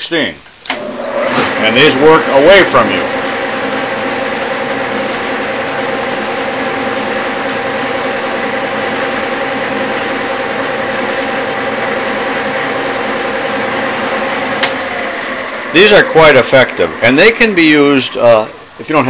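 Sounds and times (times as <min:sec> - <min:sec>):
metal lathe humming: 0:00.7 - 0:19.0.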